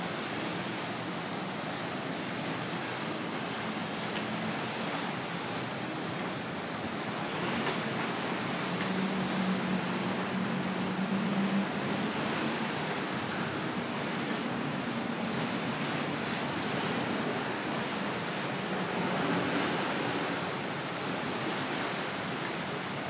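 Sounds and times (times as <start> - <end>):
sea waves: 0.0 - 23.0.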